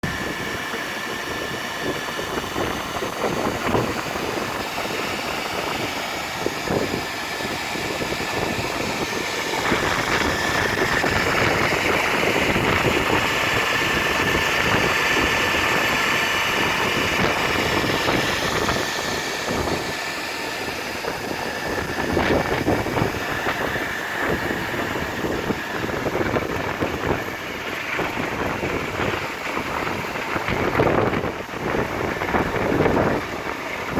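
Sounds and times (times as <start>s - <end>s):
boring machine whine: 0.0s - 33.9s
rough mechanical noise: 0.0s - 33.9s.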